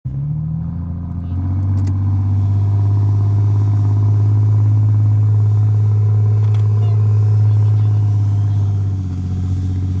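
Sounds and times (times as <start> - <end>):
engine droning: 0.1 - 10.0.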